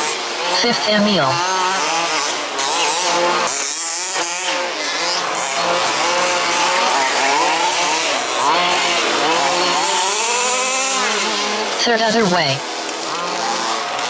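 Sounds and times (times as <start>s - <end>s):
rc buggy engines buzzing: 0.0s - 14.0s.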